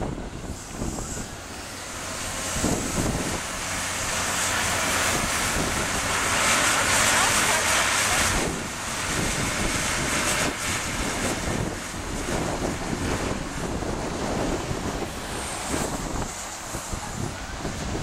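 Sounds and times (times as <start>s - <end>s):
wheel loader running: 0.0s - 18.0s
wind buffeting microphone: 0.0s - 18.0s.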